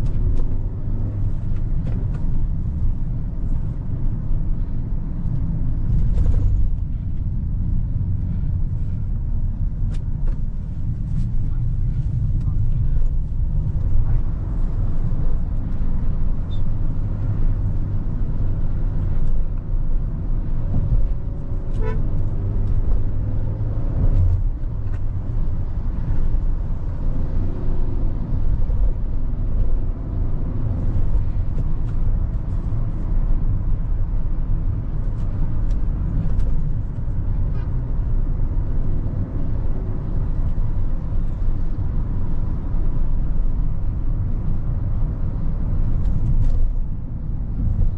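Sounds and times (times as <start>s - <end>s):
road and tyre noise: 0.0s - 47.9s.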